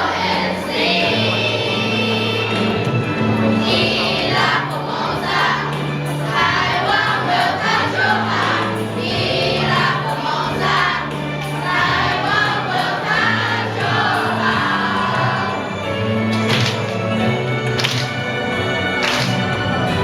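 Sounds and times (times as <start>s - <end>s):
children's choir singing: 0.0s - 20.0s
instrumental accompaniment: 0.0s - 20.0s.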